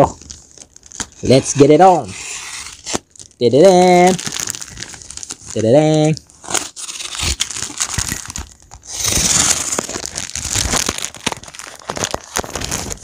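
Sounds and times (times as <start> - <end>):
packaging being torn and crumpled: 0.0 - 1.4, 2.4 - 13.0.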